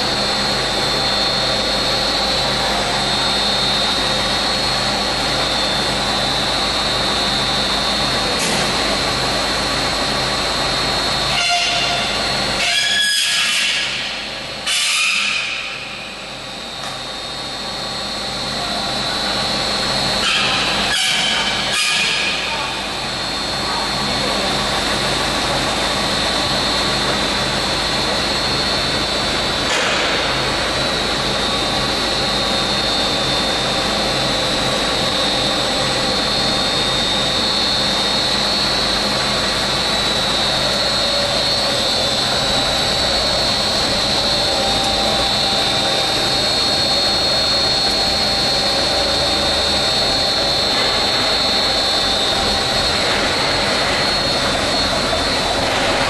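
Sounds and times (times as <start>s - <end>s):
machine drone with high whine: 0.0s - 56.0s.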